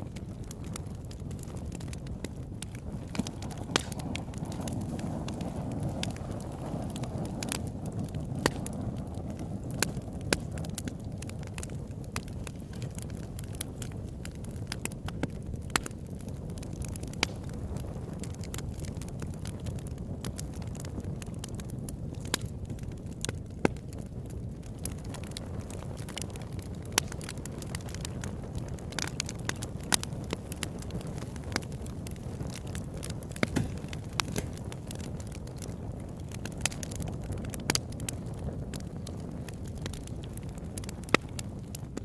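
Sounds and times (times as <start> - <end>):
campfire flames rushing: 0.0 - 42.0
fire crackling and popping: 0.0 - 42.0.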